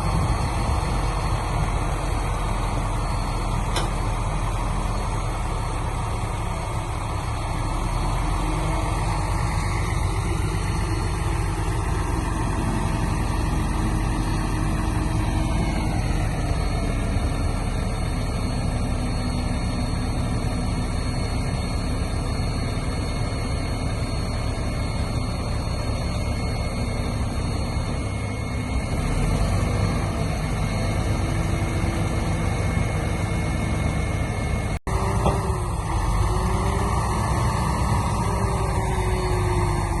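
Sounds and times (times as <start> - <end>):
heavy machinery diesel engine: 0.0 - 40.0.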